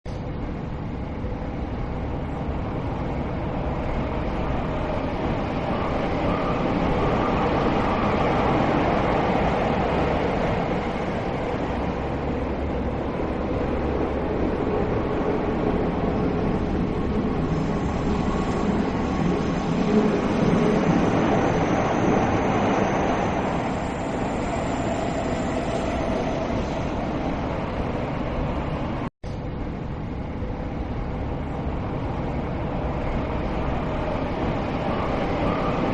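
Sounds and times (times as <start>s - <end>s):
electric train running on track: 0.3s - 29.0s, 29.6s - 35.9s.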